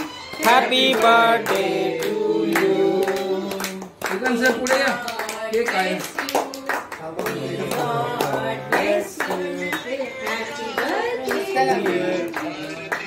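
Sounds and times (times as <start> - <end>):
song with singing: 0.0 - 4.1, 5.0 - 13.0
people clapping along: 0.0 - 13.0.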